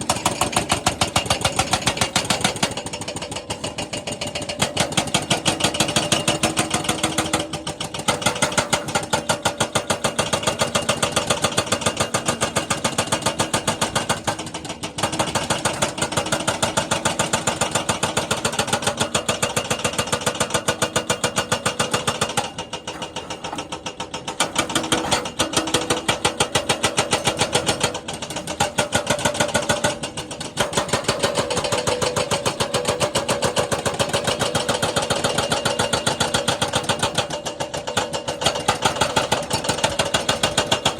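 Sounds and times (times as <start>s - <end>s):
jackhammer hammering: 0.0s - 40.9s.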